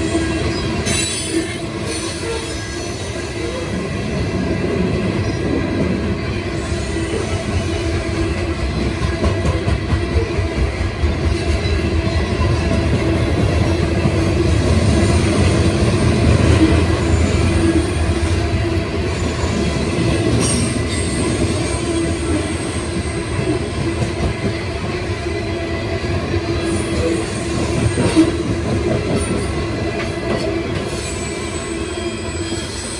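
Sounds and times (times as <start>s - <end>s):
train wheels rumbling on rails: 0.0s - 32.9s.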